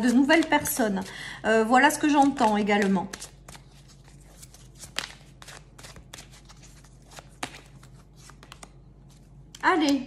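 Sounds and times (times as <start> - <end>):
cards being shuffled: 0.0 - 1.1, 2.0 - 9.6.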